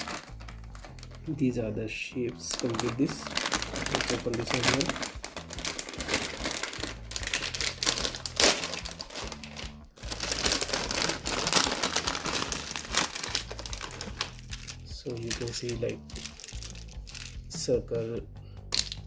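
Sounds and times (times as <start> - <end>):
packaging crinkling and rustling: 0.0 - 1.6, 2.2 - 18.0.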